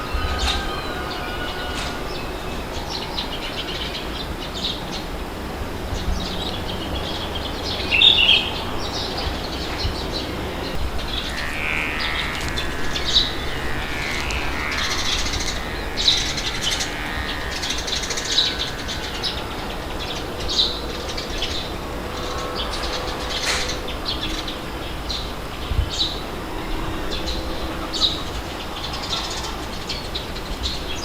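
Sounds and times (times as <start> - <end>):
small birds chirping: 0.0 - 31.0
wind rushing: 0.0 - 31.0.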